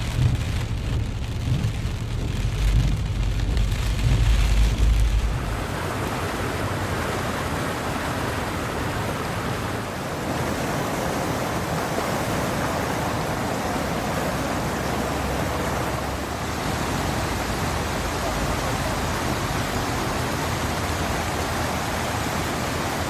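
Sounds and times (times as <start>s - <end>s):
heavy rain: 0.0s - 23.0s
running water: 0.0s - 23.0s.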